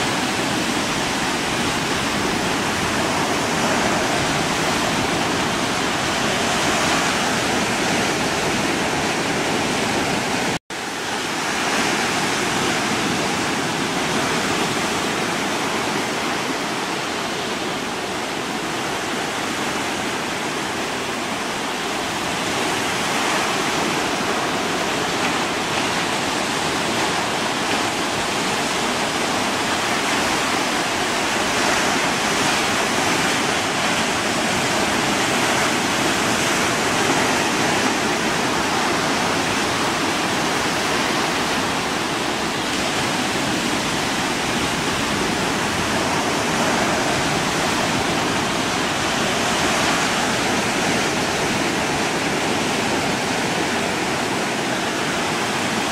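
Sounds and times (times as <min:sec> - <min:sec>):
choppy water: 0:00.0 - 0:55.9
wind: 0:00.0 - 0:55.9.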